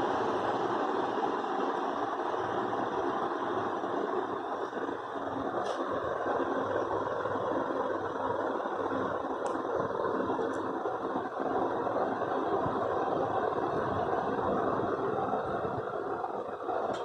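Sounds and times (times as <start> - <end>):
ceiling fan whirring: 0.0 - 17.0.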